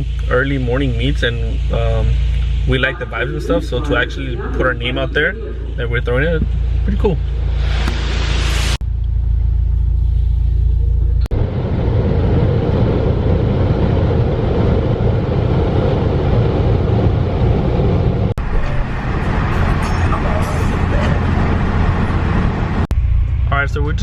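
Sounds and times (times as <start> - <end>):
car engine low rumble: 0.0 - 24.0.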